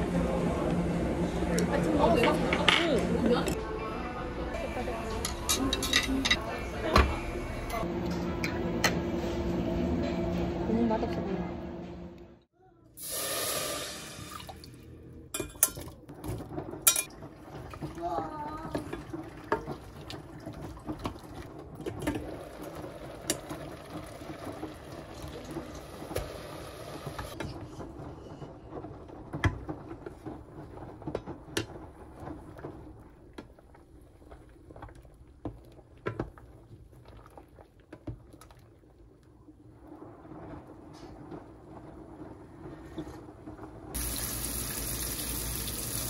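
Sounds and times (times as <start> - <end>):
washing machine humming: 0.0 - 12.4, 13.0 - 46.0.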